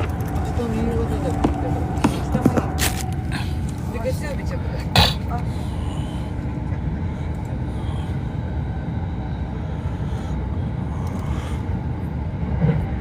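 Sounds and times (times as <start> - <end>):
train rumbling inside passenger car: 0.0 - 13.0.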